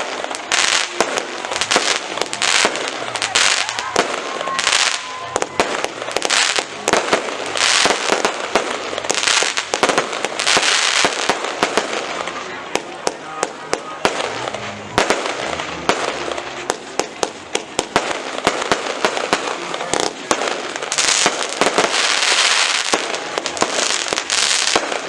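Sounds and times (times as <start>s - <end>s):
crackling firework hiss: 0.0s - 25.0s
firework bangs: 0.0s - 25.0s.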